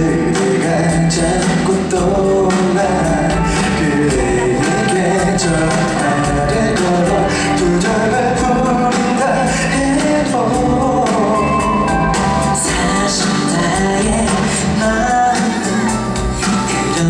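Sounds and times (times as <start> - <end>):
live band with drums: 0.0 - 17.0
man singing into microphone: 0.0 - 17.0.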